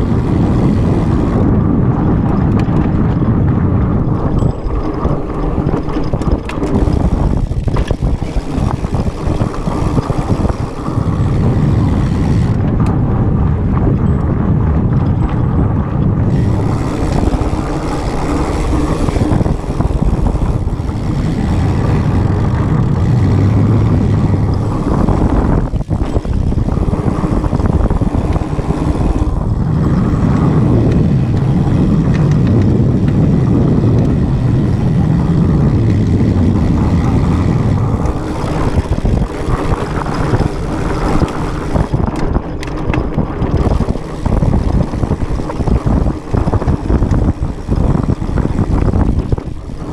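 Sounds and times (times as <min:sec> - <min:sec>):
bike tyres rattling over trail: 0:00.0 - 0:49.9
wind buffeting microphone: 0:00.0 - 0:49.9.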